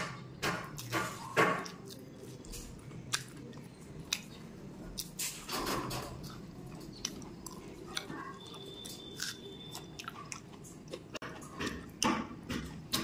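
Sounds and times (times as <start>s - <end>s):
close-up chewing with crunches: 0.7s - 12.1s.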